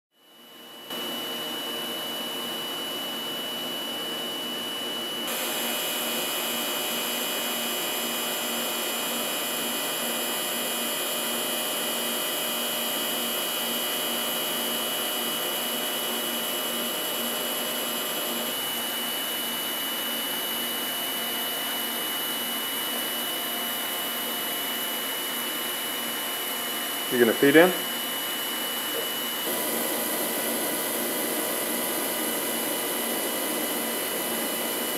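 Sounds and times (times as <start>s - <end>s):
grinder whine: 0.5s - 34.9s.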